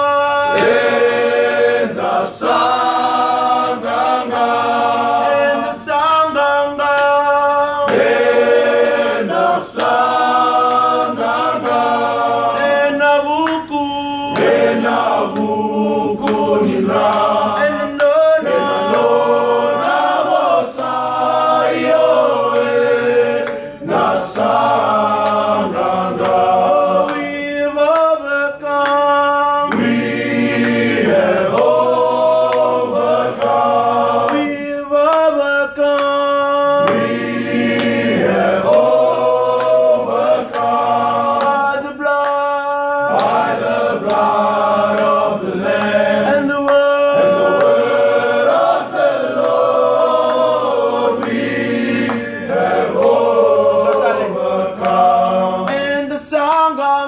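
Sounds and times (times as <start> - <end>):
men singing a hymn: 0.0 - 57.0.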